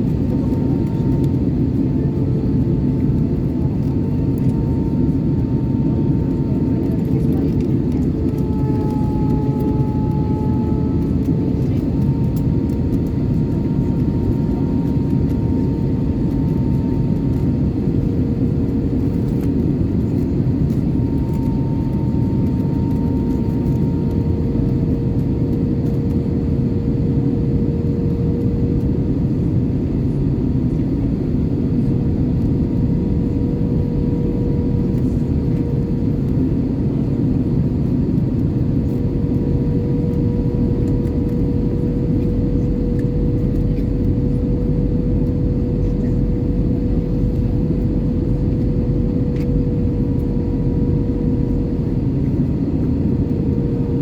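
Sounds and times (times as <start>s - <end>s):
airplane engines rumbling: 0.0s - 54.0s.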